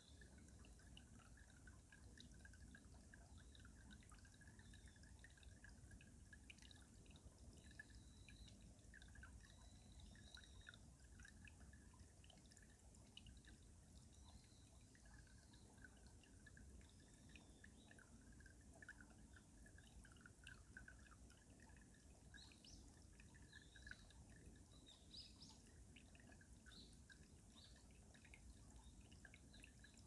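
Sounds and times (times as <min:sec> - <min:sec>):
water drips and plinks: 0:00.0 - 0:30.0.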